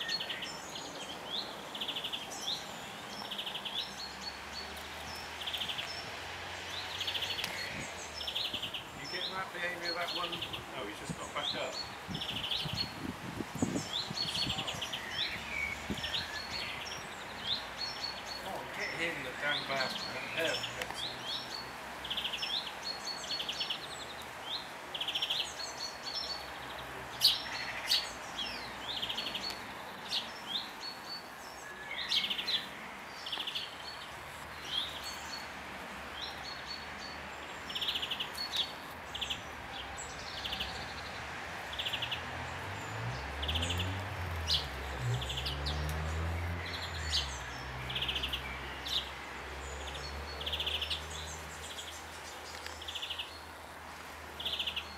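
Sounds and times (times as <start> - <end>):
young birds chirping: 0.0 - 54.9.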